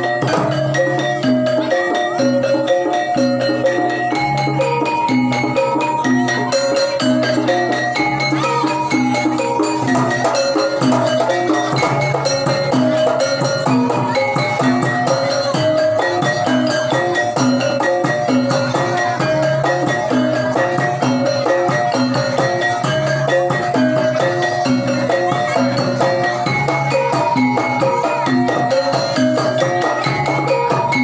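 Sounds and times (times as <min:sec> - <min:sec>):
drums: 0:00.0 - 0:31.0
tuned metal percussion: 0:00.0 - 0:31.0.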